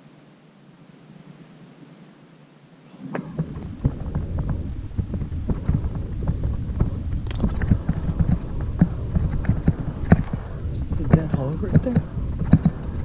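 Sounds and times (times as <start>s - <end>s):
wind rumble on microphone: 0.1s - 13.0s.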